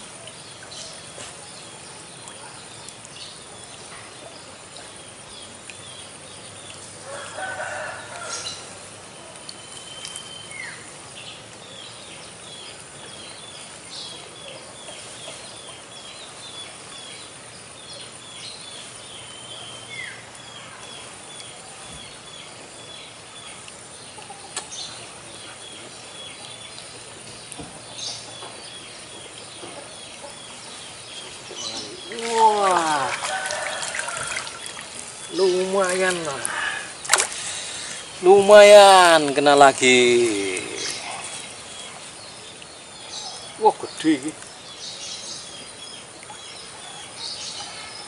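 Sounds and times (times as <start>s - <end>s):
falling bird calls: 0.0s - 48.0s.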